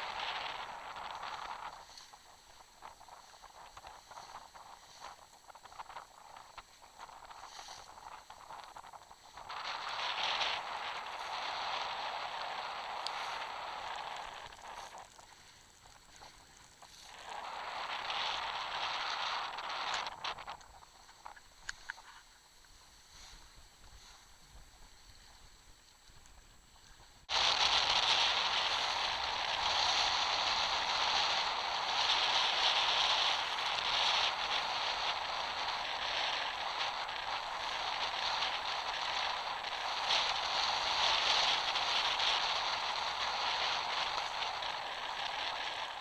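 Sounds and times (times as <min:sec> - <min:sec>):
rain pattering on microphone: 0:00.0 - 0:46.0.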